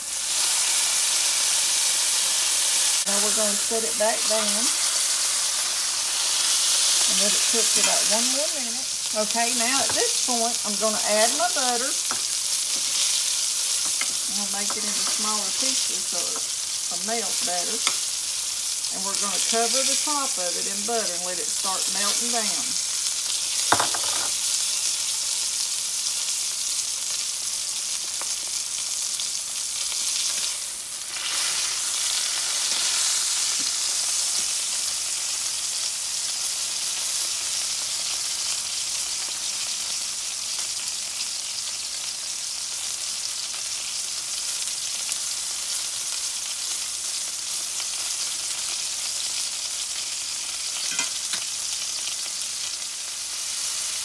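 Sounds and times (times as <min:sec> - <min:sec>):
steak sizzling in skillet: 0:00.0 - 0:54.0.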